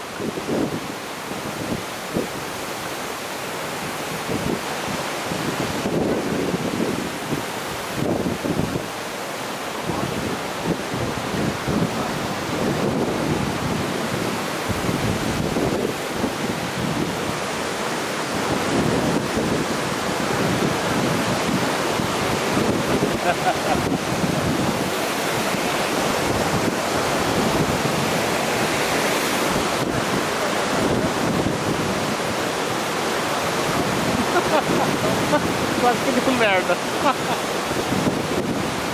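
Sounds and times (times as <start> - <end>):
wind buffeting microphone: 0.0 - 2.7, 3.8 - 9.0, 9.8 - 38.9
waterfall roaring: 0.0 - 38.9.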